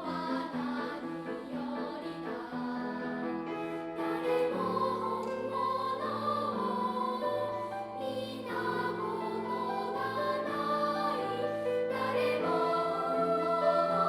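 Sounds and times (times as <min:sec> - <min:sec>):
children's choir singing: 0:00.0 - 0:14.0
piano accompaniment: 0:00.0 - 0:14.0.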